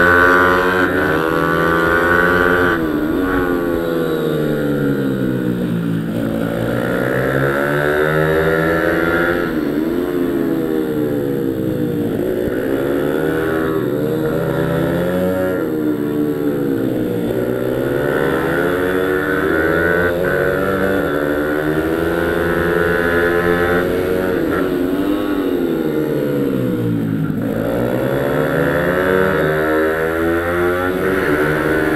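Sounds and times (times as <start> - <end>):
pit bike engine revving: 0.0 - 31.9.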